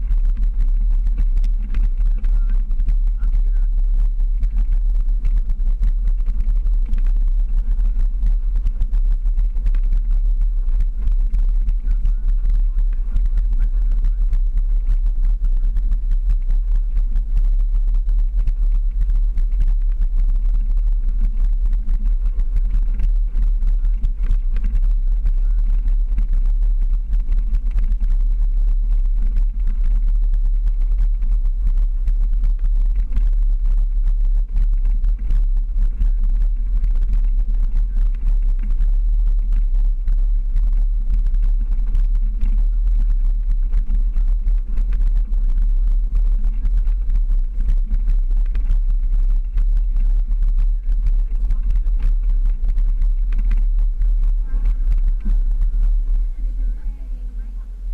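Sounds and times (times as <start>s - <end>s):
engine and wind rumble: 0.0s - 57.9s.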